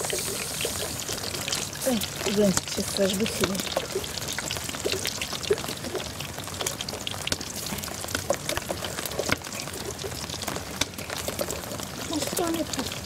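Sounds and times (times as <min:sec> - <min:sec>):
pies frying in hot oil: 0:00.0 - 0:13.0.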